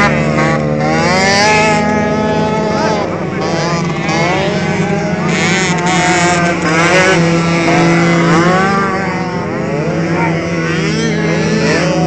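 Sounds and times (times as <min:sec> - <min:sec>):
motocross bike engines revving: 0:00.0 - 0:12.0
steady low drone: 0:00.0 - 0:12.0.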